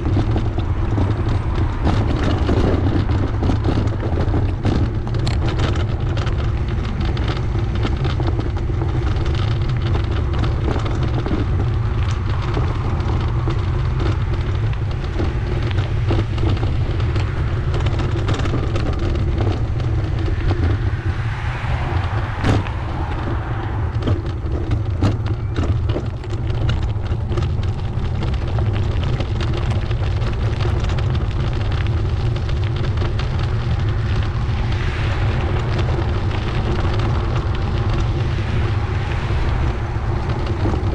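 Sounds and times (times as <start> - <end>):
small clicks and knocks: 0.0 - 35.0
tyre and path noise: 0.0 - 40.9
wind buffeting microphone: 0.0 - 40.9.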